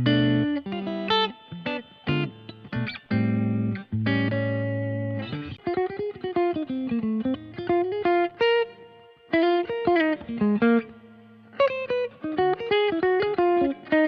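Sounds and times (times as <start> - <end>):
electric guitar through amp: 0.0 - 14.0.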